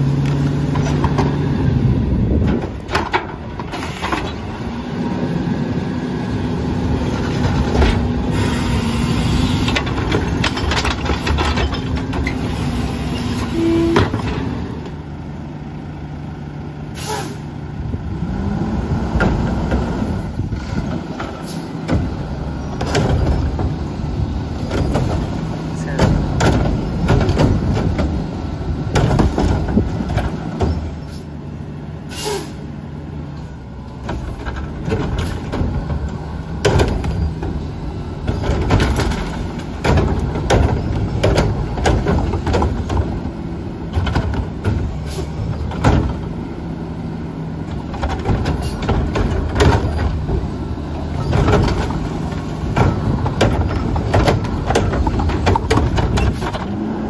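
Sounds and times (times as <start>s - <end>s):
carts clanking and banging: 0.0s - 4.8s, 6.7s - 15.1s, 19.1s - 57.0s
diesel engine running: 0.0s - 57.0s.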